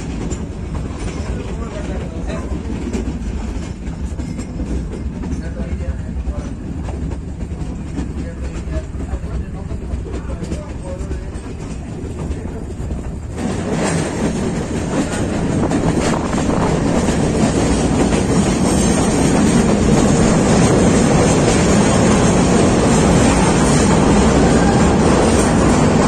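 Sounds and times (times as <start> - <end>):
train carriages rumbling: 0.0 - 26.0.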